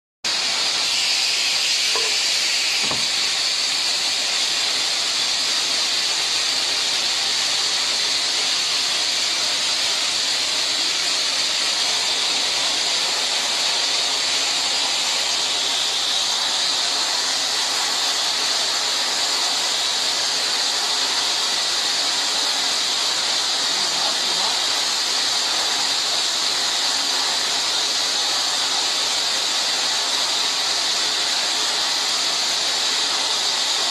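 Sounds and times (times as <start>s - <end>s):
hissing spray: 0.3s - 33.9s.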